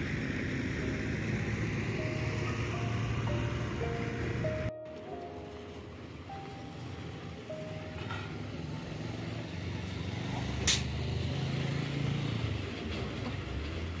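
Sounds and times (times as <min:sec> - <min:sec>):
heavy vehicle engine humming: 0:00.0 - 0:14.0.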